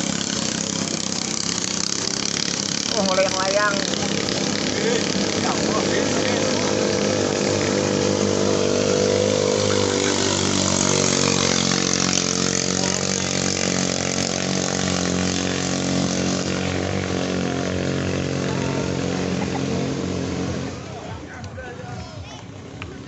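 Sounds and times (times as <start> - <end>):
small boat engines running flat out: 0.0 - 21.3.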